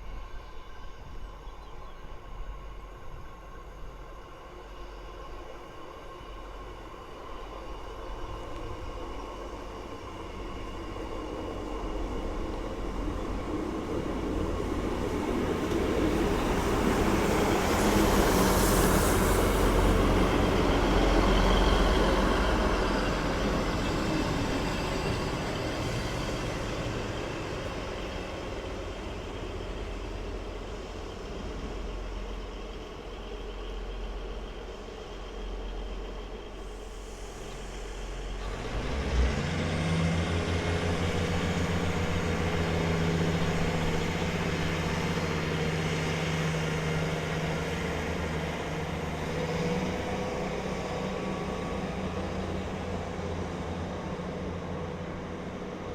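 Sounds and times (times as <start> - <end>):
train passing rumble: 0.0 - 55.9.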